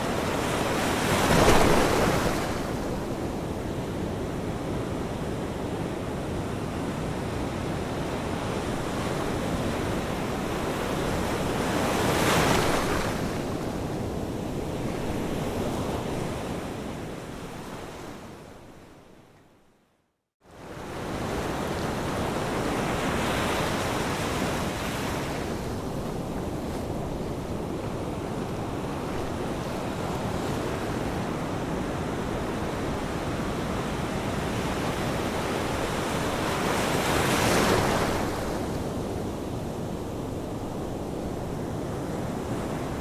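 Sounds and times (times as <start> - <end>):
ocean surf washing ashore: 0.0 - 17.0, 20.7 - 43.0.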